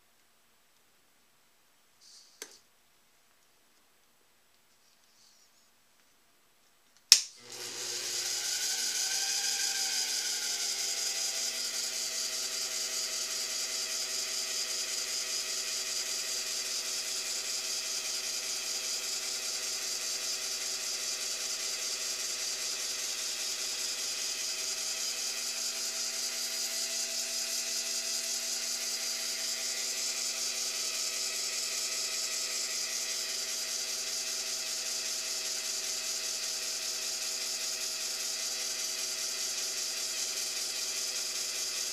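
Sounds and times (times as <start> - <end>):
lathe motor running: 7.4 - 41.9
cutting tool hissing on steel: 7.5 - 41.9.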